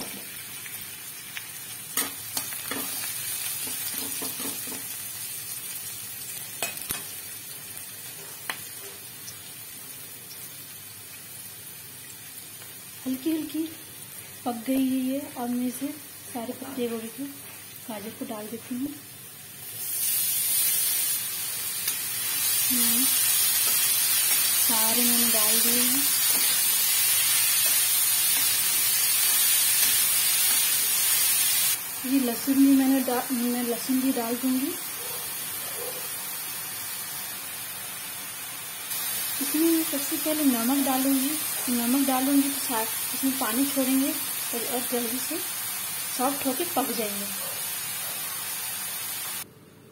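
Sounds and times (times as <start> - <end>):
onions sizzling in oil: 0.0 - 49.5.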